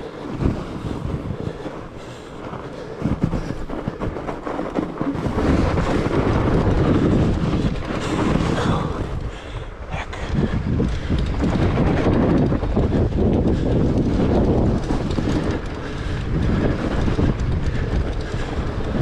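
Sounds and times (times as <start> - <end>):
bike tires rumbling on rough trail: 0.0 - 19.0.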